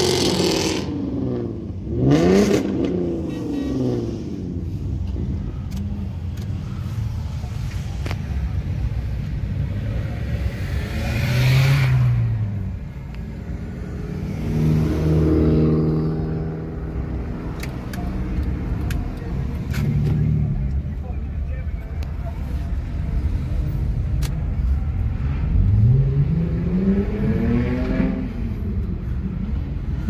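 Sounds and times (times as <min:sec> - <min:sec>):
car engines rumbling in traffic: 0:00.0 - 0:30.0.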